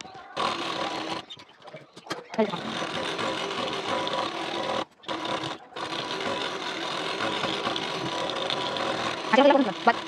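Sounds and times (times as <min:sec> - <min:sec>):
sewing machine running: 0:00.3 - 0:01.3, 0:02.4 - 0:10.0.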